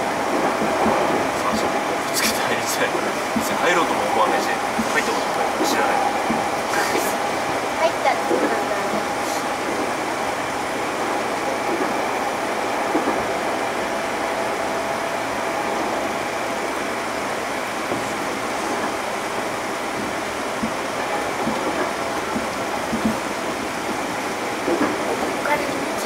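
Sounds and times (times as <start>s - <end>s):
train wheel-on-rail noise: 0.0s - 26.0s.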